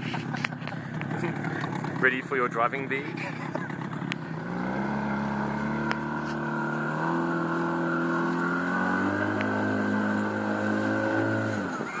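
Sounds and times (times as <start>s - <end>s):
outboard motor revving: 0.0s - 12.0s.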